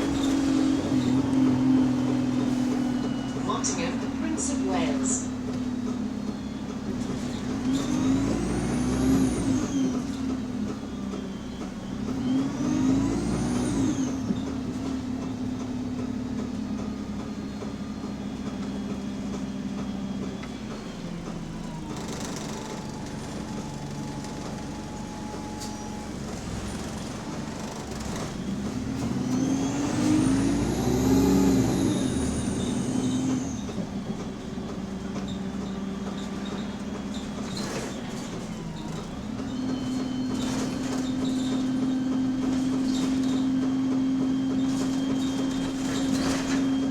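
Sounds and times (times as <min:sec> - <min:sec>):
bus diesel engine humming: 0:00.0 - 0:46.9.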